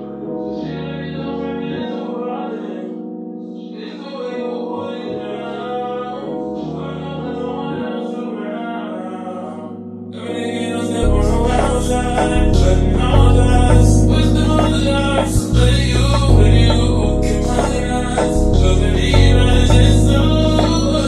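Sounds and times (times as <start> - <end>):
slow background music: 0.0 - 21.0.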